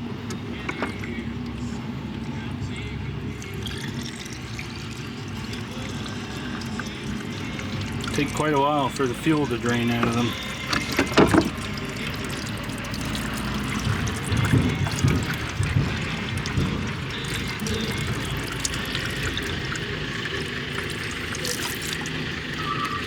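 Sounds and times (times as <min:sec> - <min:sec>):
fuel trickling: 0:00.0 - 0:23.0.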